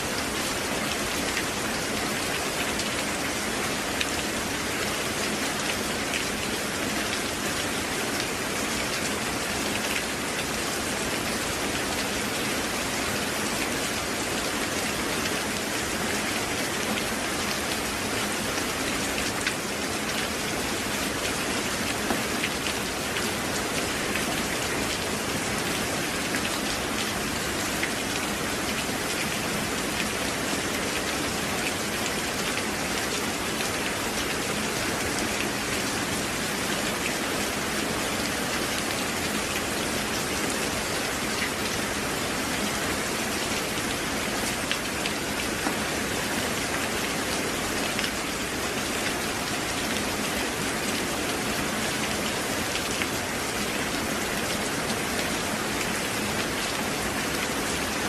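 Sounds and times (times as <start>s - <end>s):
rain pattering on surfaces: 0.1s - 58.0s.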